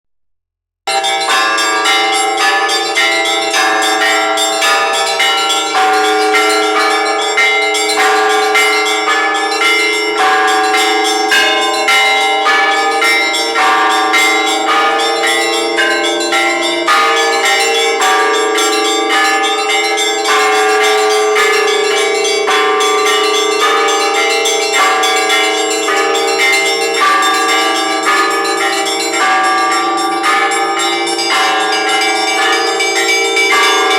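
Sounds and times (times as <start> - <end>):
church bells ringing: 0.9 - 33.9.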